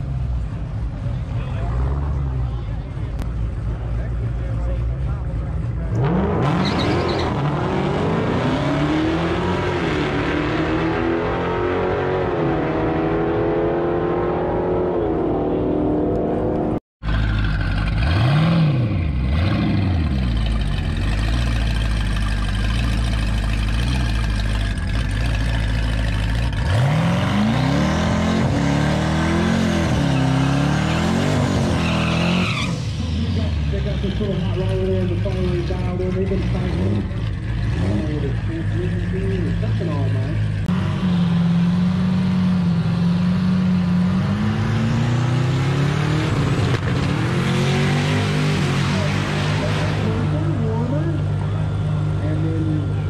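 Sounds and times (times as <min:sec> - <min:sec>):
car engine rumbling and revving: 0:00.0 - 0:53.0
drag car engine accelerating: 0:00.0 - 0:53.0.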